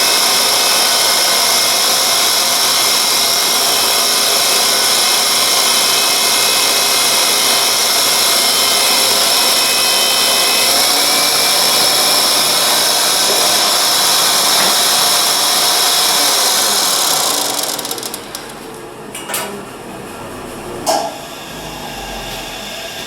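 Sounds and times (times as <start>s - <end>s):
thickness planer running: 0.0s - 19.1s.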